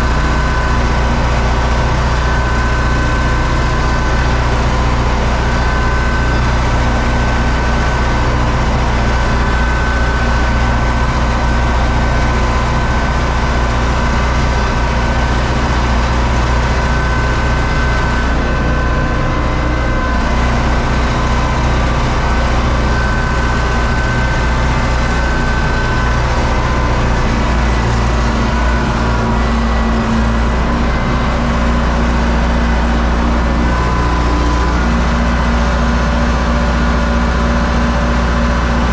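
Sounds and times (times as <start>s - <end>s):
steady high whine: 0.0s - 38.9s
tractor diesel engine running: 0.0s - 38.9s.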